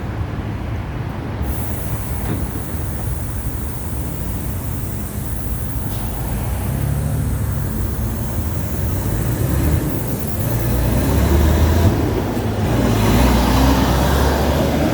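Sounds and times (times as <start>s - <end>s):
bus engine drone: 0.0s - 14.9s.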